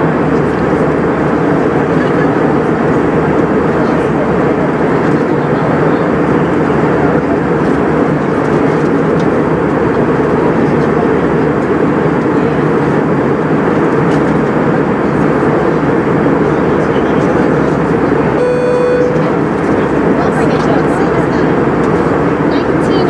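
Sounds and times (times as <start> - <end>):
airliner cabin engine and airflow noise: 0.0 - 23.0.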